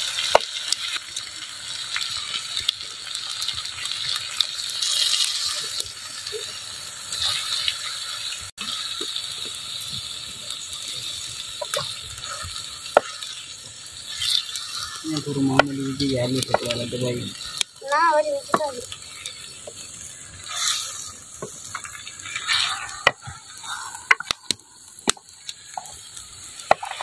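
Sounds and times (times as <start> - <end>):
food frying in oil: 0.0 - 27.0.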